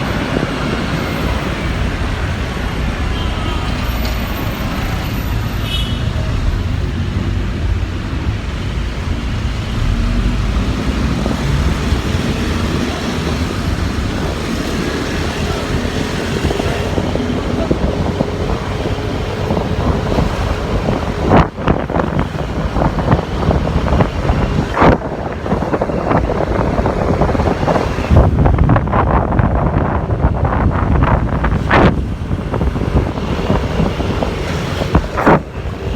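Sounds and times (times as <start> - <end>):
road and traffic noise: 0.0 - 35.9
wind on microphone: 0.0 - 35.9.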